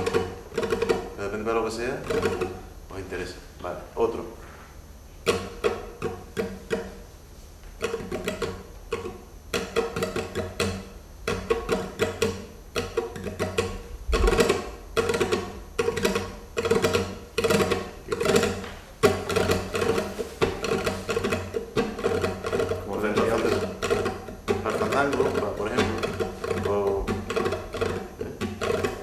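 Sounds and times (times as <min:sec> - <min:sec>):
flamenco guitar strumming: 0:00.0 - 0:04.4, 0:05.2 - 0:07.1, 0:07.7 - 0:29.0.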